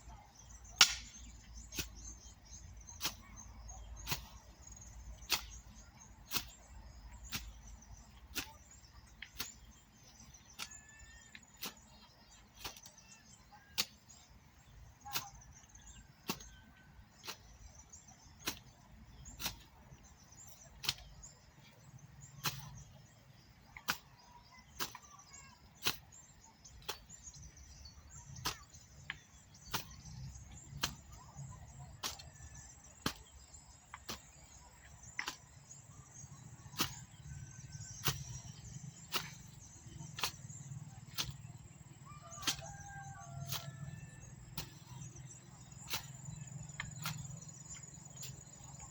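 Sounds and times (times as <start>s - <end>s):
faint bird chirps: 0.0s - 48.9s
hand hoe striking soil: 0.6s - 48.9s.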